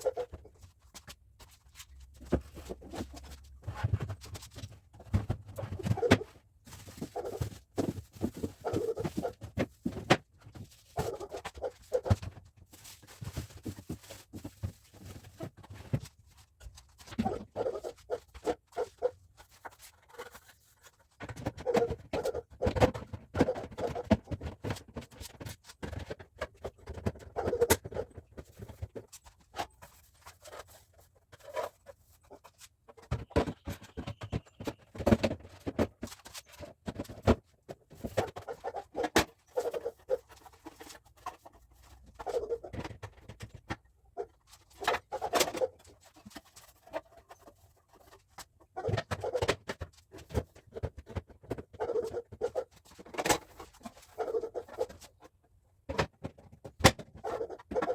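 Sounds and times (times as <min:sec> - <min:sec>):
household items clicking and knocking: 0:00.0 - 0:57.9.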